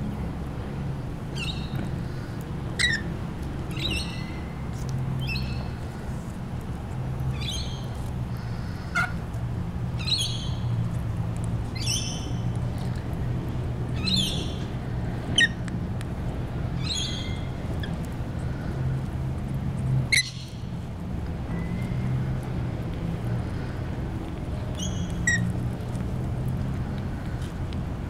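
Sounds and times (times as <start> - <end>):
street traffic hum: 0.0 - 28.0.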